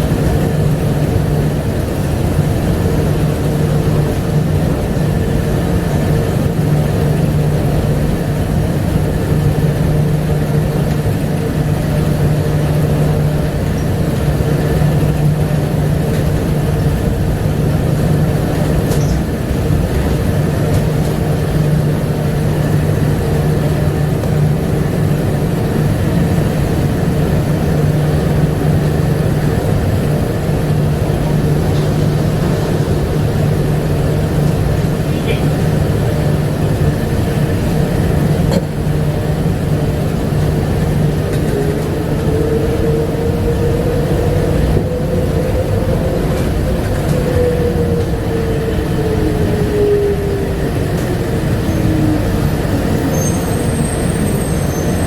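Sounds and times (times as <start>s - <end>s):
train interior hum and rumble: 0.0s - 55.0s.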